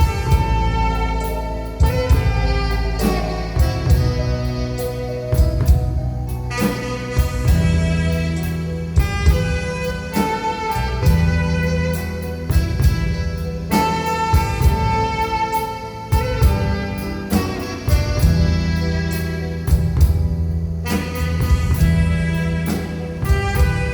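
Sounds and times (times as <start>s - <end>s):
alto saxophone melody: 0.0s - 23.9s
drum kit keeping time: 0.0s - 23.9s
keyboard bass line: 0.0s - 23.9s.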